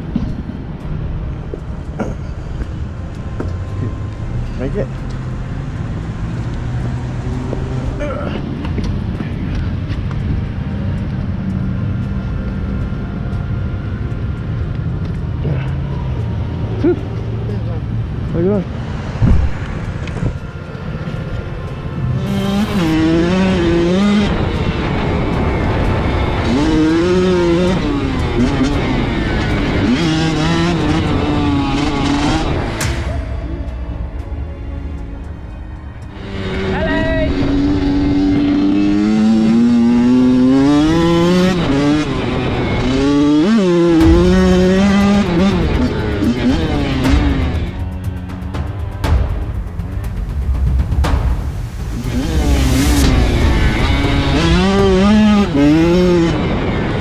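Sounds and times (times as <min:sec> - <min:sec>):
vehicle engine revving: 0:02.3 - 0:12.8, 0:14.6 - 0:57.0.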